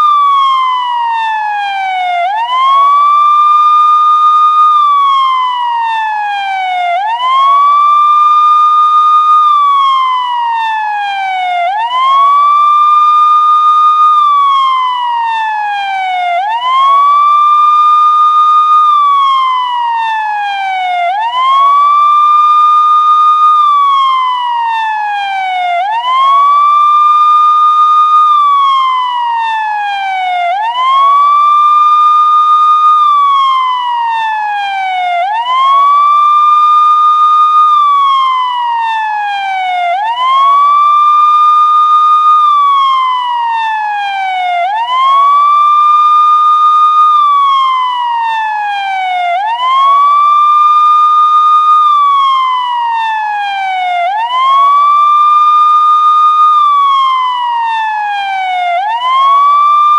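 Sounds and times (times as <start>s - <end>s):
police siren wailing: 0.0s - 59.9s.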